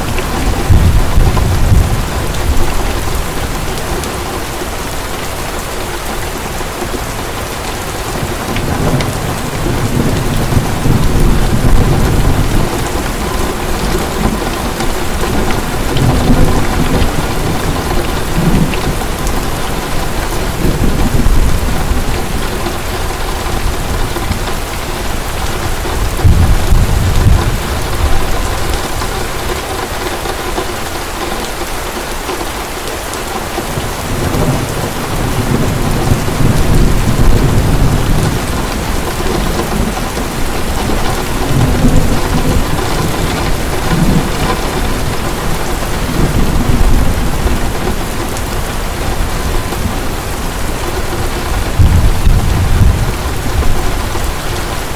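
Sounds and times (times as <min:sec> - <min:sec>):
thunder rolling: 0:00.0 - 0:04.0, 0:08.2 - 0:29.7, 0:33.8 - 0:54.9
heavy rain falling: 0:00.0 - 0:54.9.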